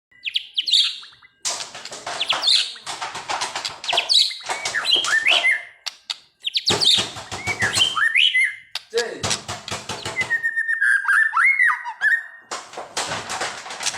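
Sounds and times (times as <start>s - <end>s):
bird singing with chatter: 0.1s - 8.9s, 10.0s - 12.4s.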